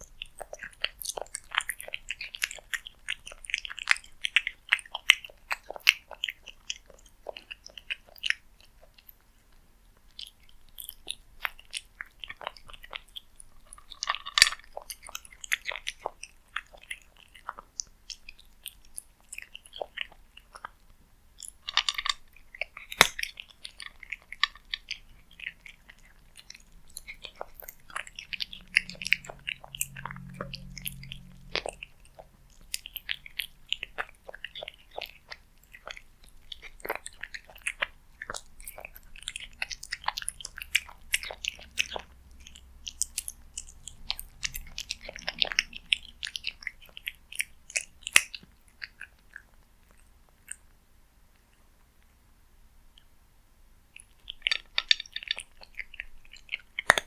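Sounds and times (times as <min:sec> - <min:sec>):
cat crunching food: 0:00.0 - 0:51.7, 0:53.9 - 0:57.0.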